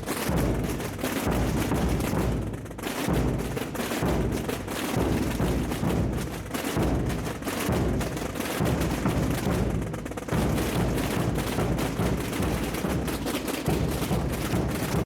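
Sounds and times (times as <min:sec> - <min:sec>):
mass of drums beating: 0:00.0 - 0:15.0.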